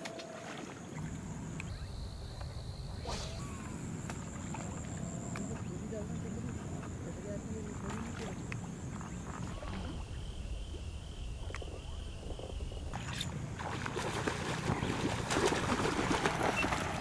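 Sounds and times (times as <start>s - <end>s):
pond water splashing: 0.0s - 17.0s.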